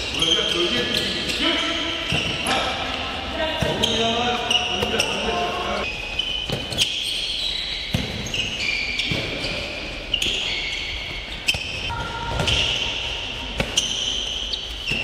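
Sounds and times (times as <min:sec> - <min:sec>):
sneakers squeaking on floor: 0:00.0 - 0:15.0.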